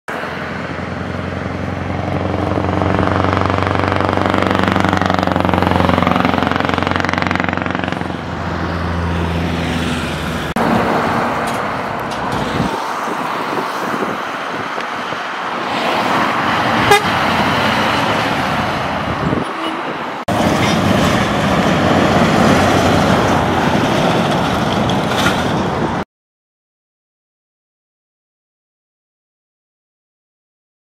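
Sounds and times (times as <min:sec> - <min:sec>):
diesel trucks driving past: 0:00.1 - 0:26.0.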